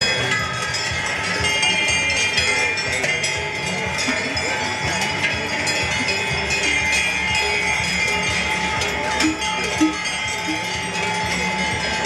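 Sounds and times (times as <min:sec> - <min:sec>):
cowbells clanging: 0:00.0 - 0:12.0.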